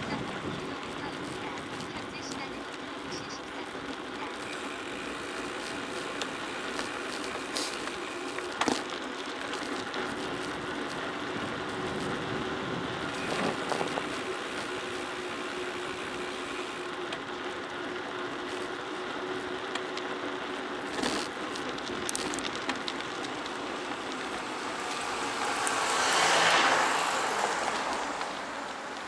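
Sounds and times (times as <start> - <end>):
tyres crunching on gravel road: 0.0 - 29.0.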